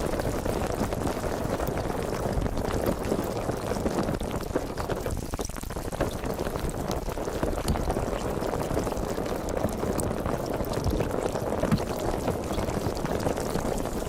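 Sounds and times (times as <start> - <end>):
sparkling water fizzing: 0.0 - 14.0.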